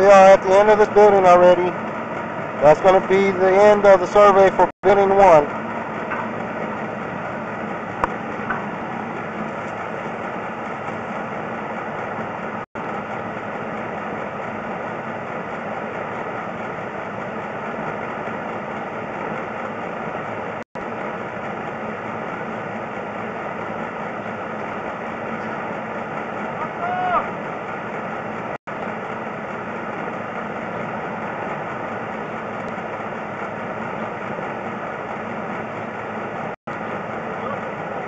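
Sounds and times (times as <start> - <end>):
steady machine drone: 0.0 - 38.0.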